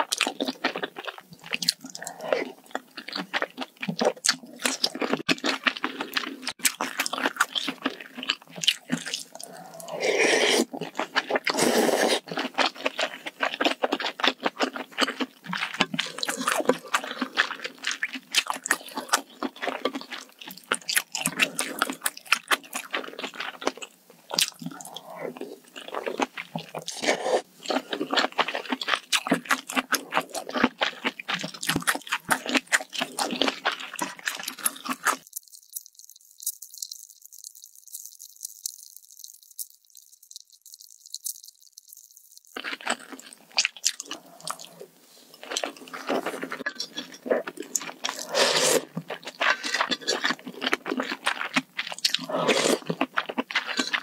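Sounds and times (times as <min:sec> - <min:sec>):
wet chewing and crunching: 0:00.0 - 0:54.0.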